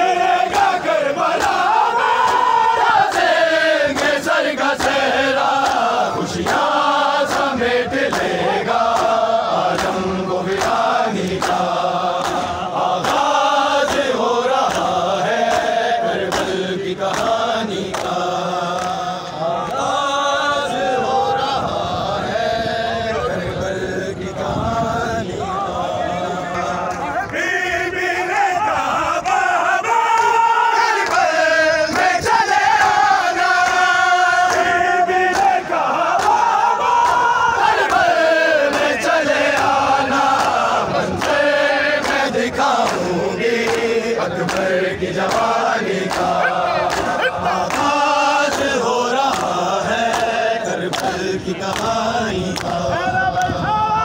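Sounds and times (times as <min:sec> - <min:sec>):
crowd of men chanting: 0:00.0 - 0:54.0.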